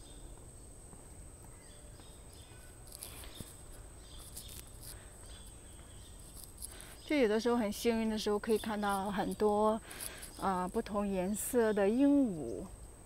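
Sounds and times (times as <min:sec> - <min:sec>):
faint bird chirps: 0:00.0 - 0:12.8.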